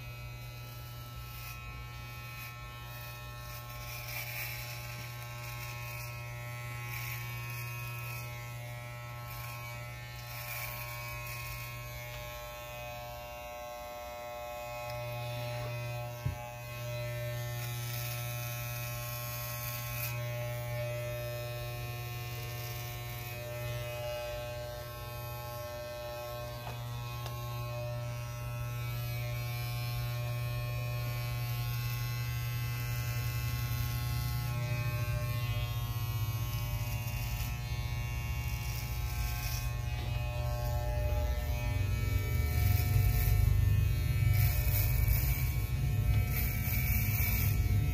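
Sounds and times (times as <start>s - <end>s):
electric hair clippers buzzing: 0.0s - 47.9s.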